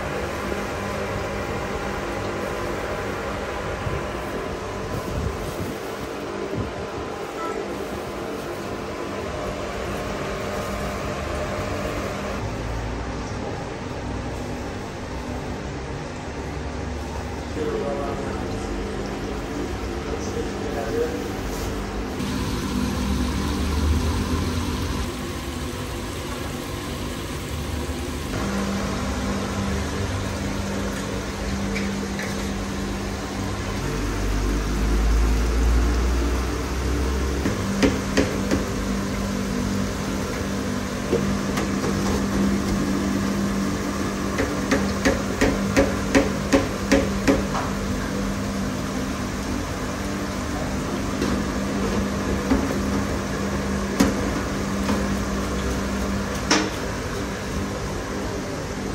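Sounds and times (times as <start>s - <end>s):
kitchen equipment hum: 0.0s - 58.9s.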